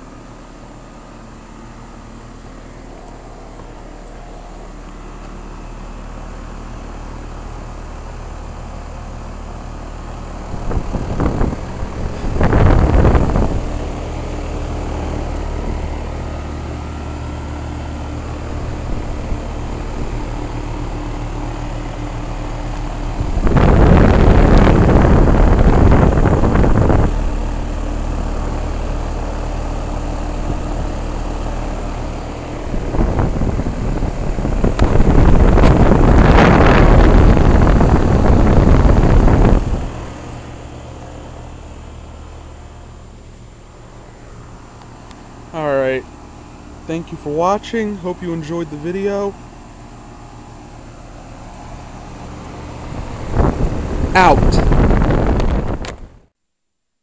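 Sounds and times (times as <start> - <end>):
air conditioner humming: 0.0 - 56.3.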